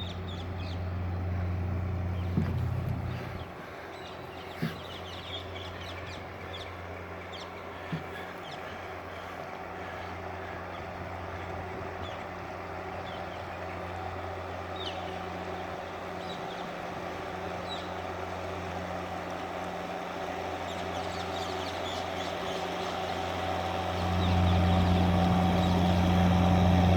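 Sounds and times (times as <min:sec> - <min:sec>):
boat engine humming: 0:00.0 - 0:26.9.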